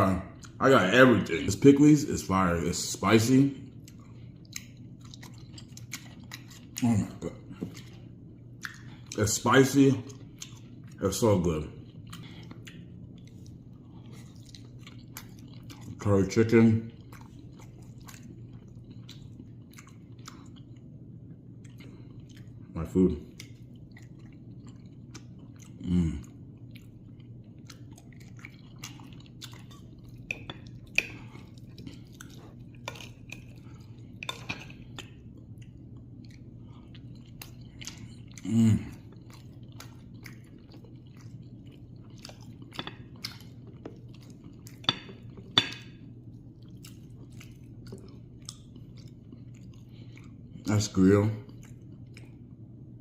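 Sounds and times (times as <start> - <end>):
chewing and crunching food: 0.0 - 53.0
steady low hum: 0.0 - 53.0.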